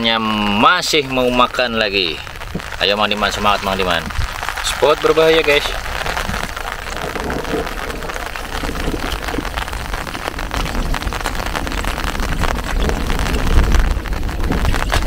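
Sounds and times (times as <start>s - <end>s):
rain falling: 0.0s - 15.0s
steady low rumble: 1.4s - 15.0s.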